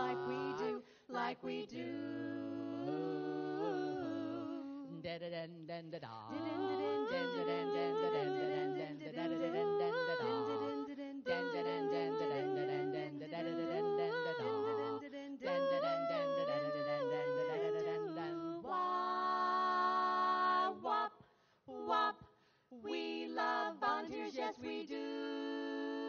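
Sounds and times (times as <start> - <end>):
women singing in harmony: 0.0 - 5.2, 6.3 - 26.0.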